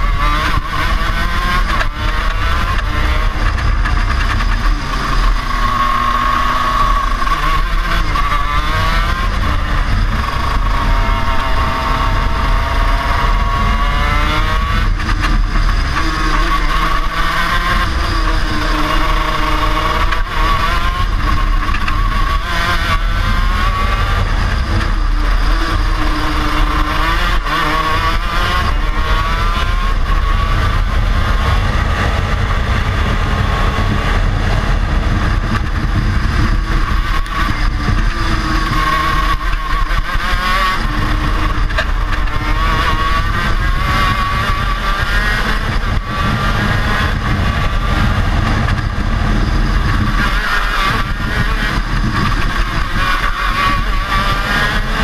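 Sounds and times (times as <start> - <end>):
kart two-stroke engine racing: 0.0 - 55.0.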